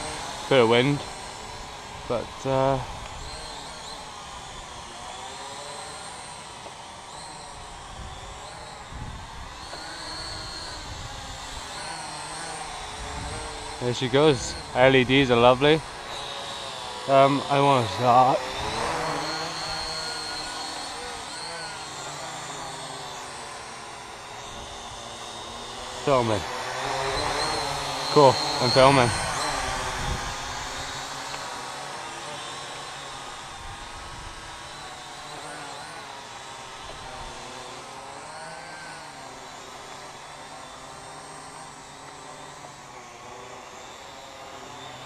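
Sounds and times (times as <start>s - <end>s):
drone motors buzzing: 0.0s - 45.0s.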